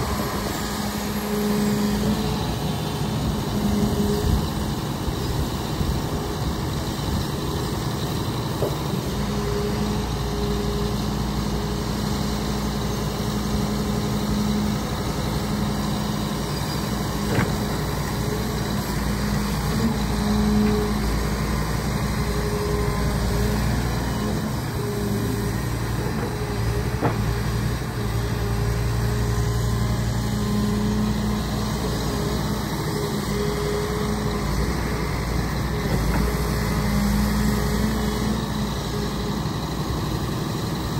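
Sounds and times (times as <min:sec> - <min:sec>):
construction machinery engine humming: 0:00.0 - 0:40.9.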